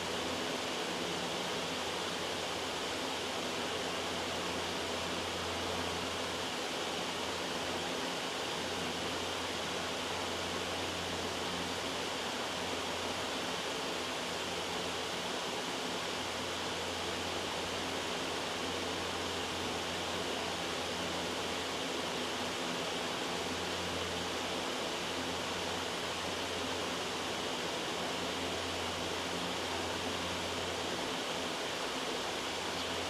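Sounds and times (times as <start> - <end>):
loud white noise hiss: 0.0 - 33.0.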